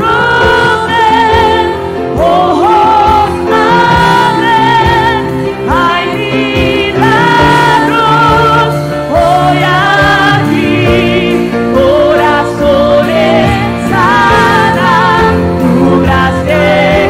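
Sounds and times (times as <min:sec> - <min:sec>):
electric guitars and keyboard: 0:00.0 - 0:17.0
singers holding long notes: 0:00.0 - 0:17.0.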